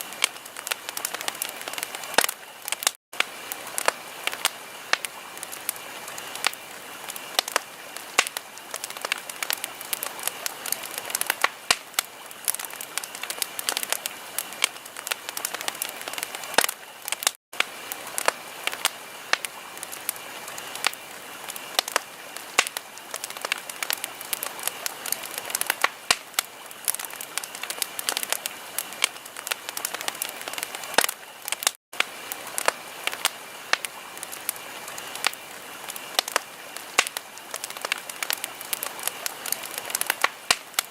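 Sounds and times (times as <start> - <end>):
fire crackling and popping: 0.0 - 40.9
soft fire hiss: 0.0 - 40.9.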